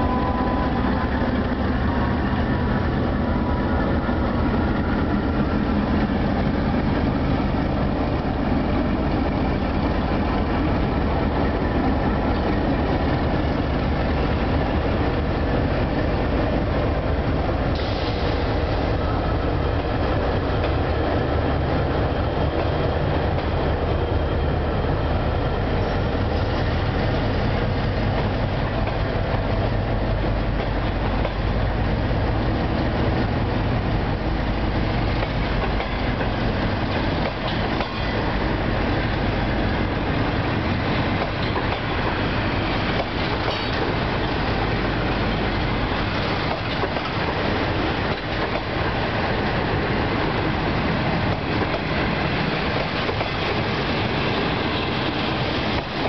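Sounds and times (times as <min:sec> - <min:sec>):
train wheels rolling on track: 0:00.0 - 0:56.0.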